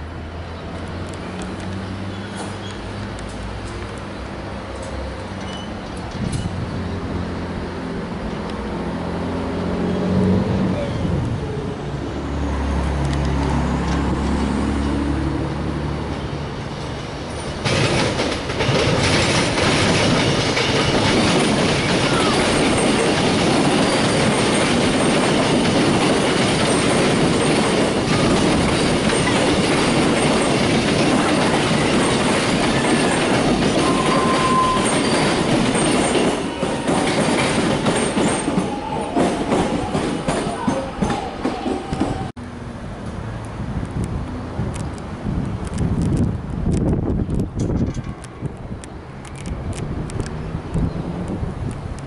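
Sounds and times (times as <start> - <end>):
train wheels clickety-clack on rails: 0.8 - 6.6, 12.7 - 42.3, 43.0 - 52.0.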